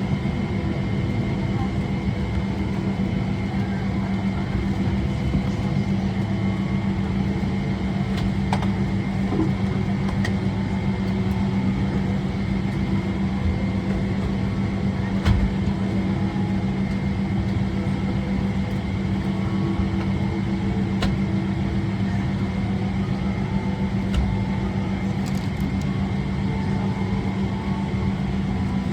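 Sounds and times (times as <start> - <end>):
aircraft cabin air hum: 0.0 - 28.9.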